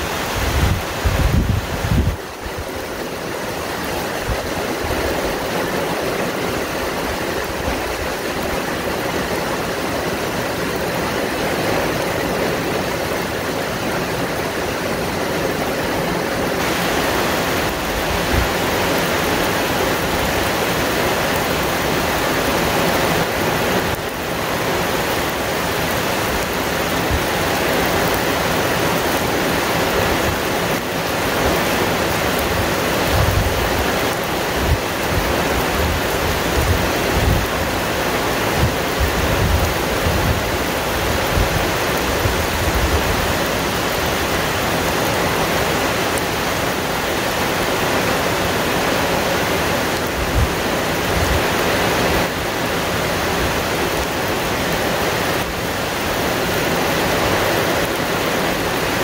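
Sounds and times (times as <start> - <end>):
heavy rain on trees: 0.0 - 59.0
wind rumbling: 0.0 - 59.0.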